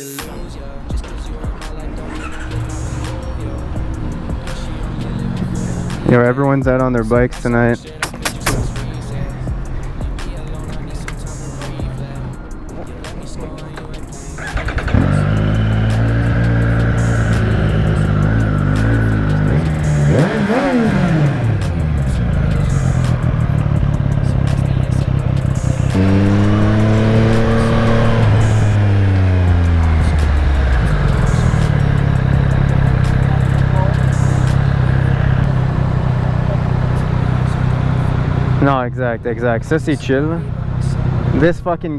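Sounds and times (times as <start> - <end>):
motorcycle engine revving: 0.0 - 41.5.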